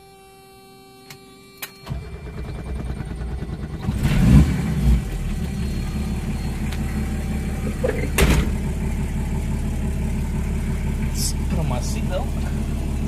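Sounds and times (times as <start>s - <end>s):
diesel engine cranking and starting: 1.2s - 13.0s
diesel engine idling: 1.8s - 13.0s.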